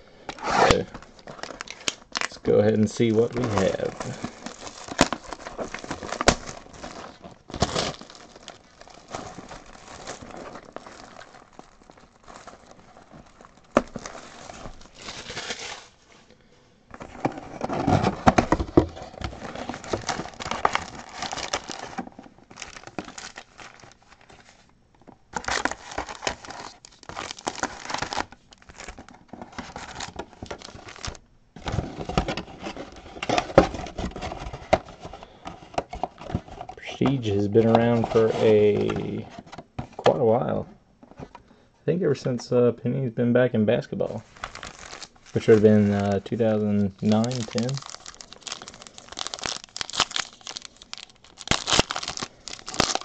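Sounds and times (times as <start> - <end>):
foil packs rustling: 0.3 - 16.1, 16.9 - 24.7, 25.3 - 40.1, 44.0 - 53.0
plastic shrink wrap crinkling: 0.3 - 16.1, 16.9 - 24.7, 25.3 - 40.2, 44.0 - 53.0.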